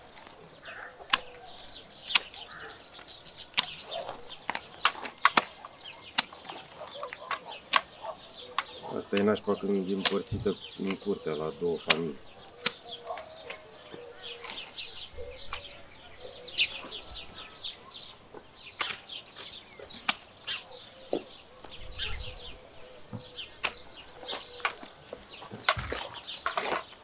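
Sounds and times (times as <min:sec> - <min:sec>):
pruning shears snipping branches: 0:00.0 - 0:14.8, 0:18.3 - 0:21.8, 0:23.1 - 0:27.0
small birds chirping: 0:00.0 - 0:27.0.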